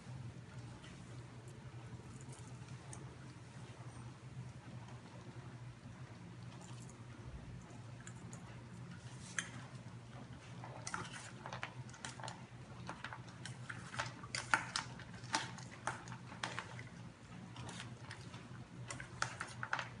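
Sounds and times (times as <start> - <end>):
puppy eating from metal bowl: 0.5 - 20.0.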